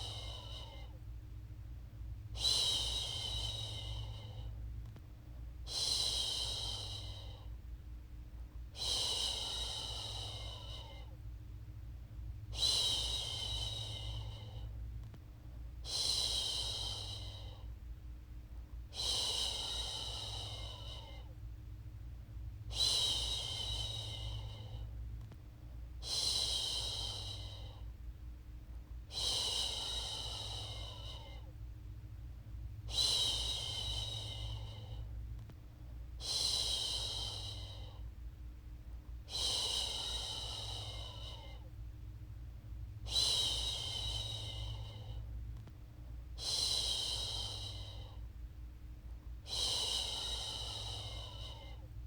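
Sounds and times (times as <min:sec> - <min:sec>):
soft breathy sound: 0:00.0 - 0:52.0.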